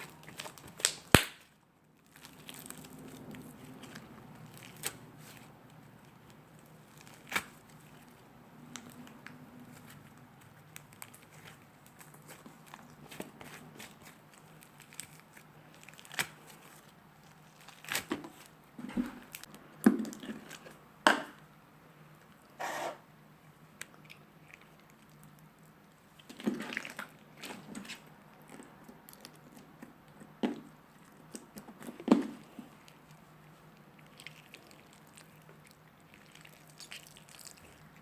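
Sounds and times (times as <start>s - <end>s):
hands squishing slime: 0.0s - 20.8s, 23.8s - 38.0s.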